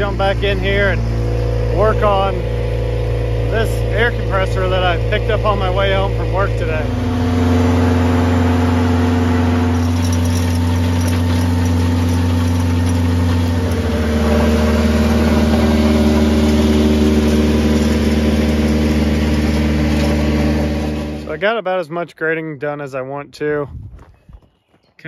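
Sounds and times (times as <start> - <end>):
tractor engine running under load: 0.0 - 21.4.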